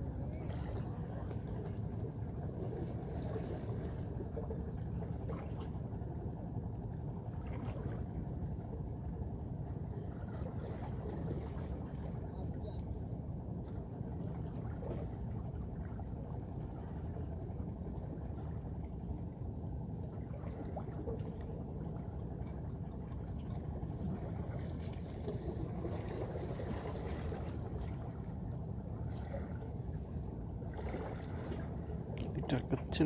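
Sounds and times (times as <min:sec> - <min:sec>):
sea: 0:00.0 - 0:33.0
wind: 0:00.0 - 0:33.0.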